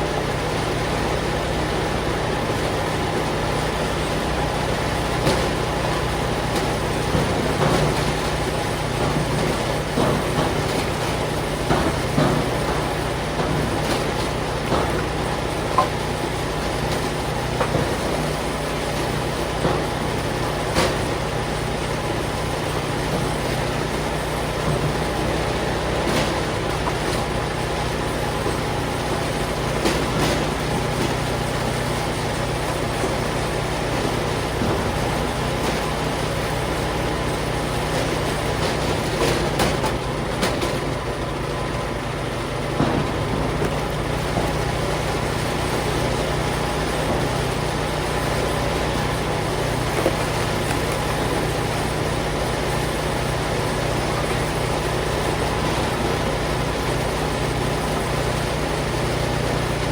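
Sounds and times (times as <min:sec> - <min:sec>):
log splitter engine running: 0:00.0 - 0:59.9.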